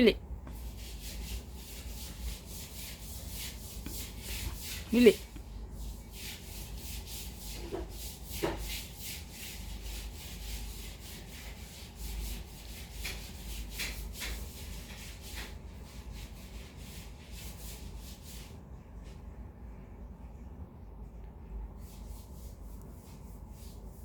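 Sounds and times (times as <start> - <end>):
rubbing or scratching strokes: 0.0 - 19.2, 21.8 - 24.0.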